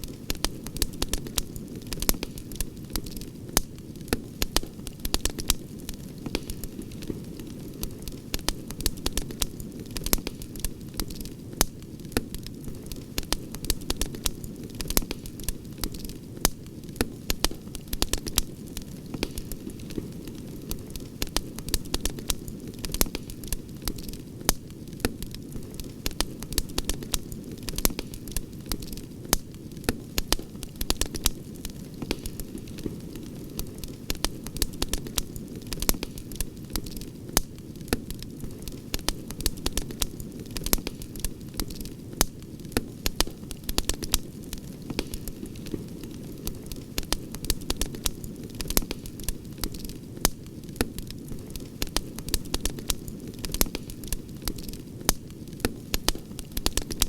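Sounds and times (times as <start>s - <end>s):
campfire crackling: 0.0s - 57.0s
low rumble of flames: 0.0s - 57.0s
sharp pops and snaps: 0.0s - 57.0s.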